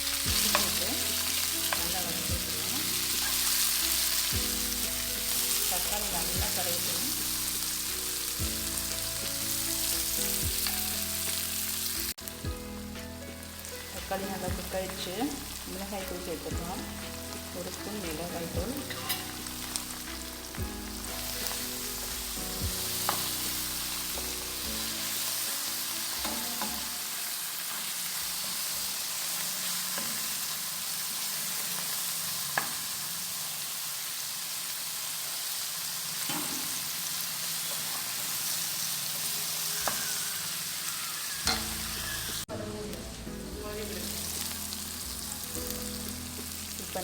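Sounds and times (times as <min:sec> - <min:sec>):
soft background music: 0:00.0 - 0:30.6, 0:39.6 - 0:47.0
masala sizzling in a pan: 0:00.0 - 0:47.0.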